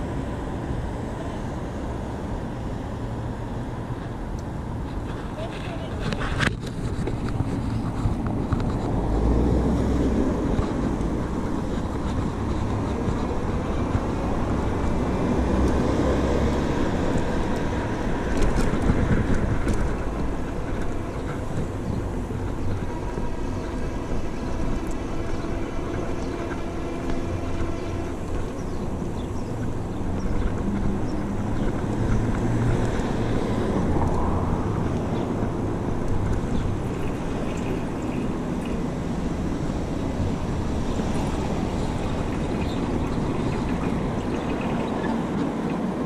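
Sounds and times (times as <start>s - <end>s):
wind rumble on microphone: 0.0s - 46.0s
bicycle tyre noise: 4.8s - 46.0s.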